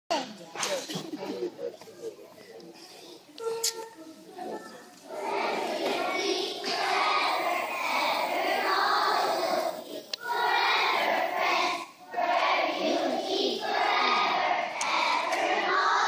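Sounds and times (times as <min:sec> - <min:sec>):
children speaking in unison: 0:00.1 - 0:16.0.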